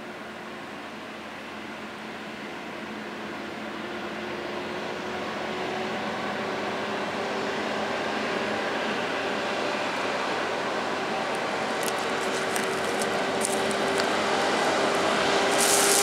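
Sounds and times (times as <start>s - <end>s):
diesel truck engines droning: 0.0s - 16.0s.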